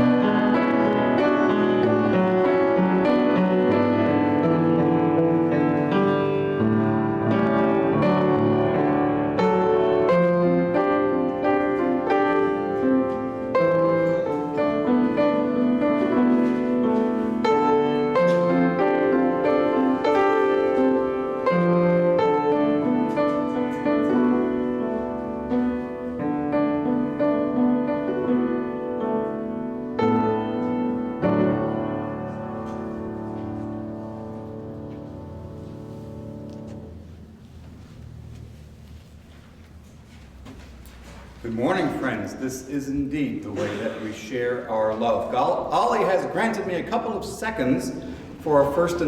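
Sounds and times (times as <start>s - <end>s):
slow solo piano piece: 0.0s - 40.4s.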